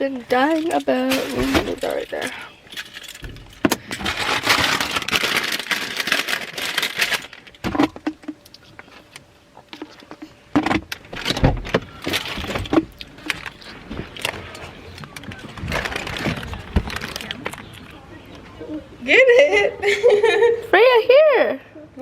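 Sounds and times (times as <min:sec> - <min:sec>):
rustling and handling noise: 0:00.0 - 0:18.8.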